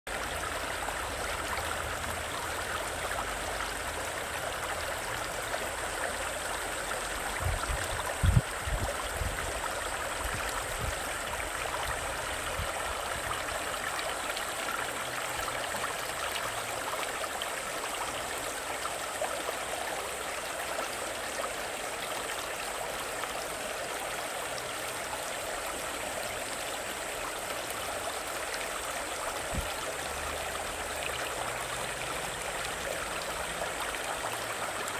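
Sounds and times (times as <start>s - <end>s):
stream babbling over rocks: 0.1s - 34.9s.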